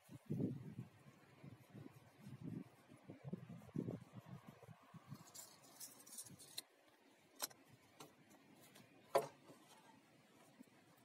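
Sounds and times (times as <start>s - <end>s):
light rustle: 0.0s - 11.0s.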